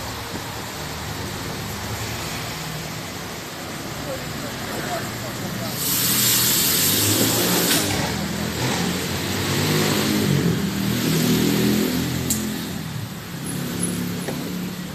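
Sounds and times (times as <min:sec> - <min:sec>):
road hiss from wet street: 0:00.0 - 0:14.9.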